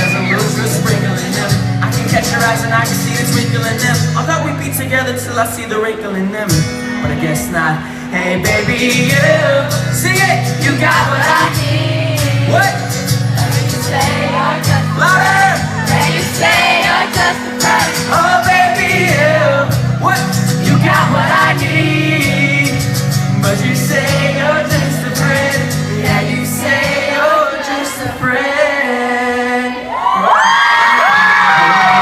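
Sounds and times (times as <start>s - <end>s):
man singing over backing track: 0.0s - 30.4s.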